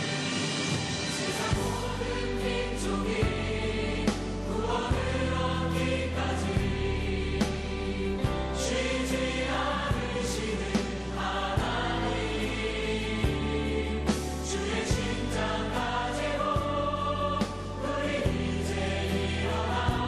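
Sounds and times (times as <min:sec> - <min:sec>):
choir singing worship song: 0:00.0 - 0:20.0.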